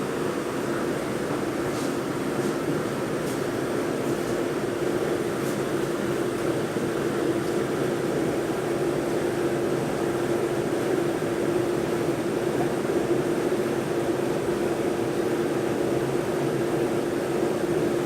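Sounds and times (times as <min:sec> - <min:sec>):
washing machine hum and rushing: 0:00.0 - 0:18.0.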